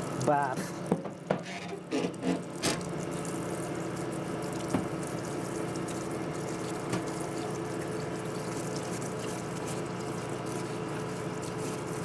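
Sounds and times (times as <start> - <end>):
pump running: 0.0 - 12.0.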